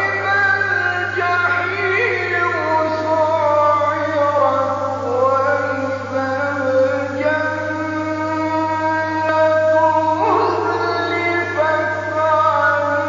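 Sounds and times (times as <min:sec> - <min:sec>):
man chanting melodically: 0:00.0 - 0:13.0
steady low hum: 0:00.0 - 0:13.0.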